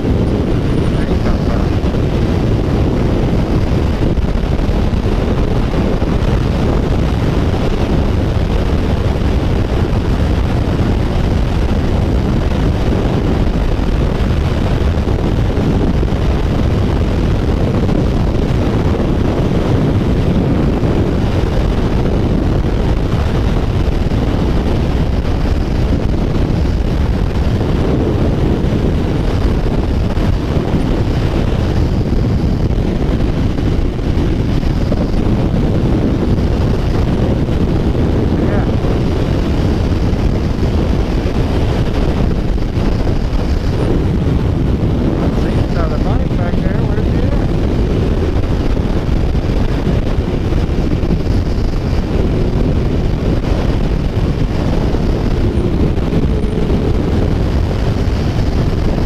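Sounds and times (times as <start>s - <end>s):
motorcycle engine cruising: 0.0s - 59.0s
road noise: 0.0s - 59.0s
wind buffeting microphone: 0.0s - 59.0s.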